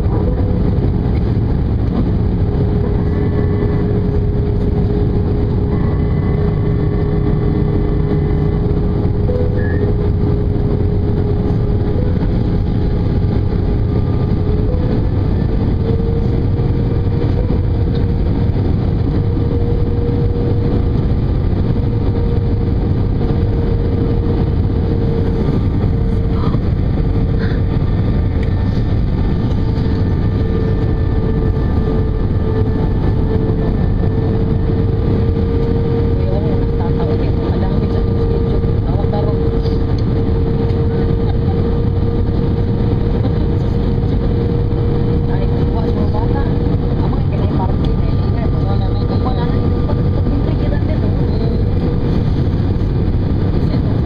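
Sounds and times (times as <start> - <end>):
airflow rushing in cabin: 0.0 - 54.0
jet engine hum: 0.0 - 54.0.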